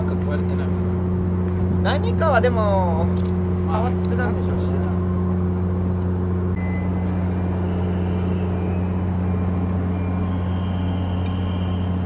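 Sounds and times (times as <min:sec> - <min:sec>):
machinery drone: 0:00.0 - 0:12.0.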